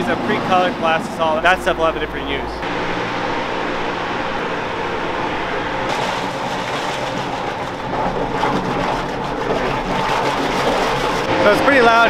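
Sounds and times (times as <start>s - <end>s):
industrial mixer hum and whirr: 0.0s - 12.0s.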